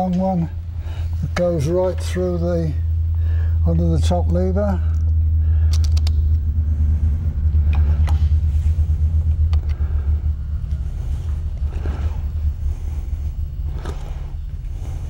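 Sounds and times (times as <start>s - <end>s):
fluttering low rumble: 0.0s - 15.0s.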